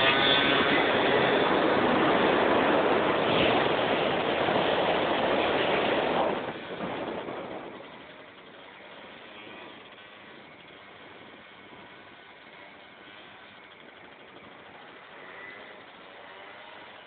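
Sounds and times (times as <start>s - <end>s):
scooter engine passing by: 0.0s - 17.0s.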